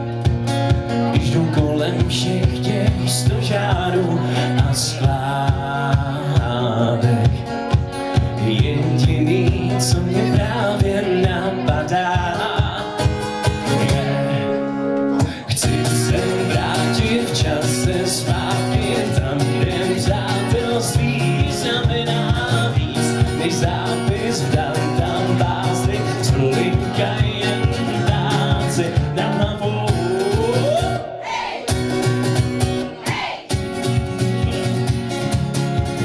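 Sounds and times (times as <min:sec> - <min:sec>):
acoustic guitar strumming: 0:00.0 - 0:36.0
man singing: 0:01.0 - 0:32.0.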